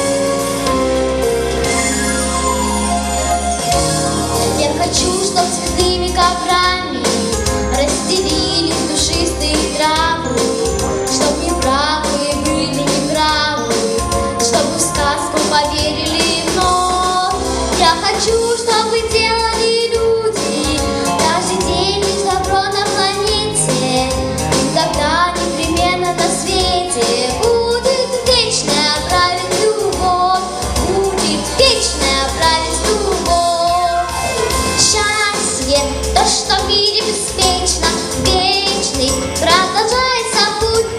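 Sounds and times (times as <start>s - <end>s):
backing track with steady beat: 0.0s - 40.9s
girl singing with vibrato: 4.4s - 34.2s, 34.8s - 40.9s.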